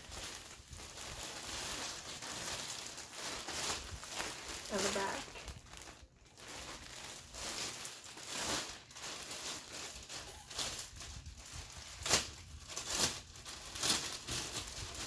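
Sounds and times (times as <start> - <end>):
wrapping paper rustling: 0.0 - 15.0.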